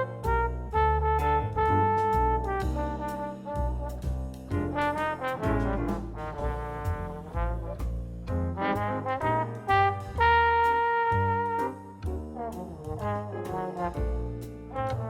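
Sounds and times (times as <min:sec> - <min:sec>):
jazzy brass music with bass: 0:00.0 - 0:15.0.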